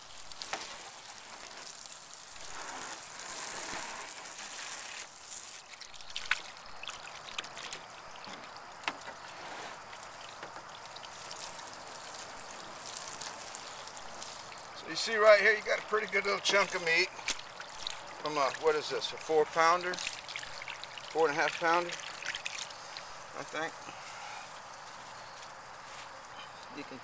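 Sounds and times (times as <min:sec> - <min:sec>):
water splashing on fish: 0:00.0 - 0:23.8
water running from hose: 0:00.0 - 0:27.0.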